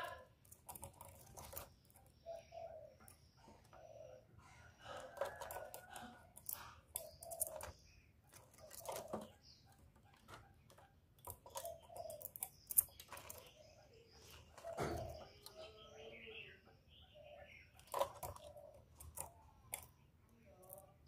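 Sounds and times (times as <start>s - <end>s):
dove moving in wire cage: 0.0s - 15.8s, 17.7s - 21.0s.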